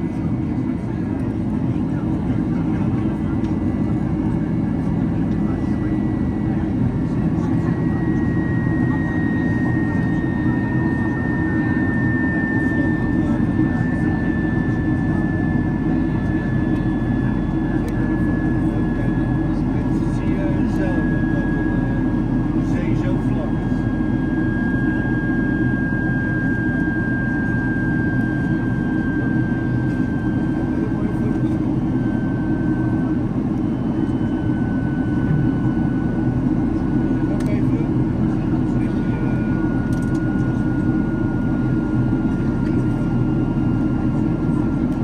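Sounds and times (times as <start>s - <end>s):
high engine whine: 0.0s - 45.0s
jet engine cabin rumble: 0.0s - 45.0s.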